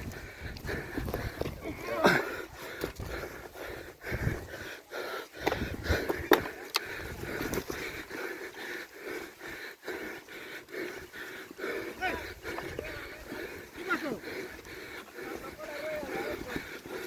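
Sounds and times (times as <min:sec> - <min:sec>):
person panting hard: 0:00.0 - 0:17.0.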